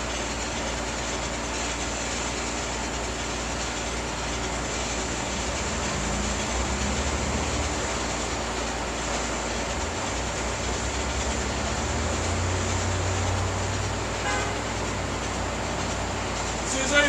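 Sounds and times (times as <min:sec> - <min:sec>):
steady rumbling noise: 0:00.0 - 0:17.0.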